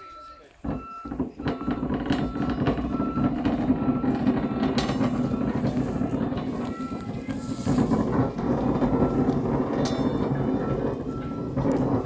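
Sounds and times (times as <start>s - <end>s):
metro train rumbling on track: 0.6s - 12.0s.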